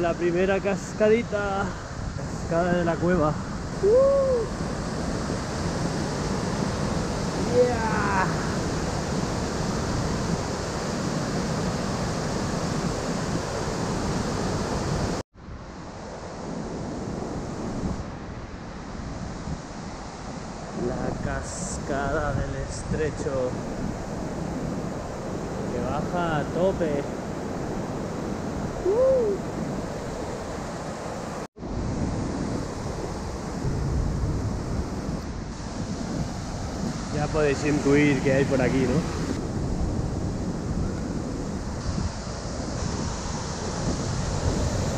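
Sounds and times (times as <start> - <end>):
quieter steady water rushing: 0.0 - 44.9
wind on microphone: 0.0 - 44.9.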